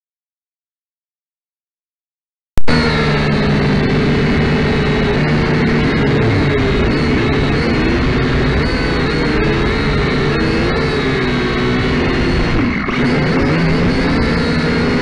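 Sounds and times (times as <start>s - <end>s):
quadcopter motors whirring: 2.7s - 15.0s.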